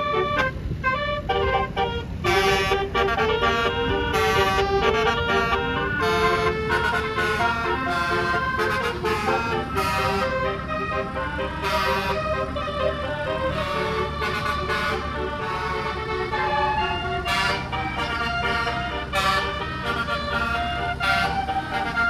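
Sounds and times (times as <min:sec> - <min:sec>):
bus engine rumble: 0:00.0 - 0:22.0
multi-tone bus horn melody: 0:00.0 - 0:22.0.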